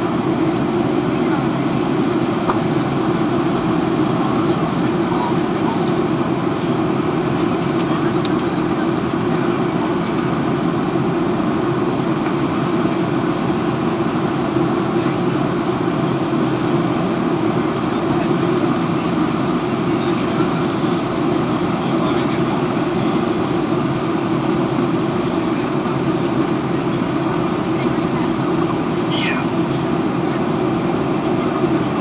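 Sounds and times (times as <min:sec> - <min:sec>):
airplane cabin roar: 0:00.0 - 0:32.0.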